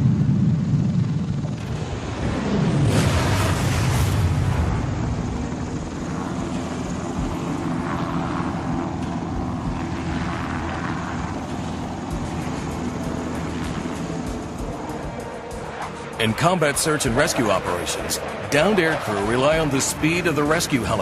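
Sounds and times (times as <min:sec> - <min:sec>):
aircraft engine and rotor noise: 0:00.0 - 0:21.0.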